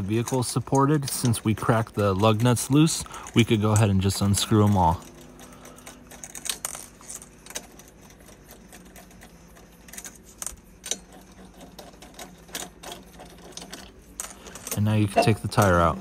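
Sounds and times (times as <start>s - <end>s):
lug wrench rattling on lug nuts: 0.0s - 16.0s.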